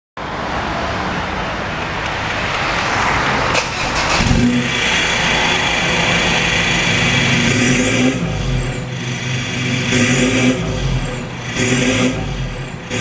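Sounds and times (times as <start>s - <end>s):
diesel engine droning: 0.3s - 13.0s.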